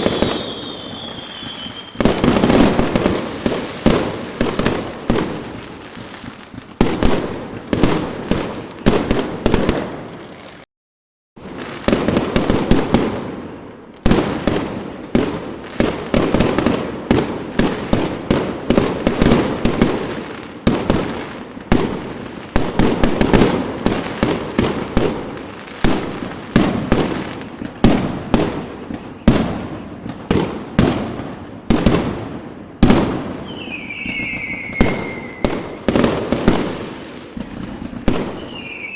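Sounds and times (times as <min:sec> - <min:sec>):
fireworks banging: 0:00.0 - 0:10.6, 0:11.4 - 0:38.9
fireworks crackling: 0:00.0 - 0:10.7, 0:11.4 - 0:38.9.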